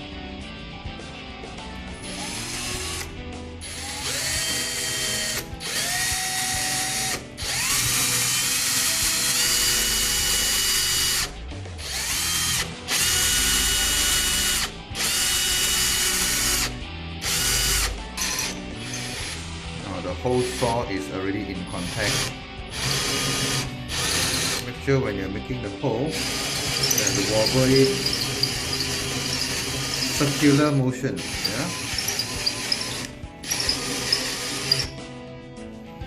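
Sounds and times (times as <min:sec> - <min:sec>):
drill whining while cutting: 0:02.0 - 0:19.6, 0:20.4 - 0:20.9, 0:21.8 - 0:24.7, 0:26.1 - 0:35.0.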